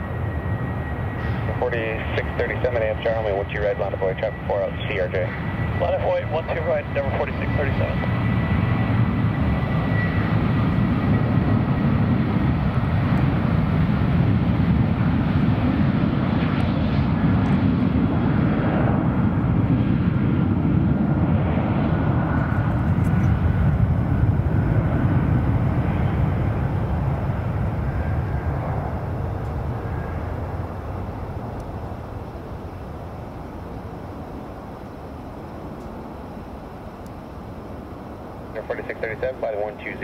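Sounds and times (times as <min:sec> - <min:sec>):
jet engines roaring at takeoff: 0:00.0 - 0:40.0.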